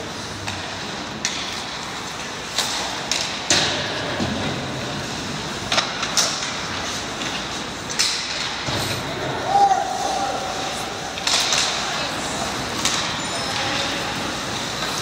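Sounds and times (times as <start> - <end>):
steady rink hiss: 0.0 - 15.0
hockey sticks and puck clacking: 0.1 - 15.0.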